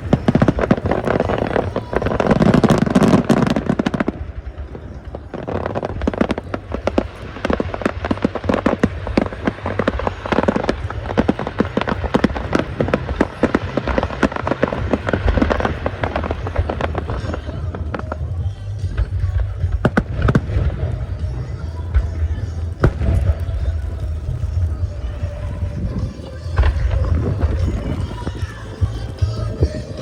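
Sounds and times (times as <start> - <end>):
crackling firework pops: 0.0 - 30.0
deep firework burst: 0.0 - 30.0.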